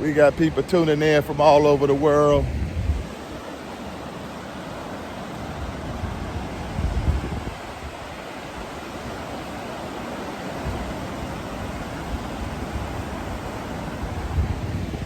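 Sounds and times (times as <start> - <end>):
wind rumble on microphone: 0.0 - 3.5, 4.2 - 15.0
surf breaking on beach: 0.0 - 15.0.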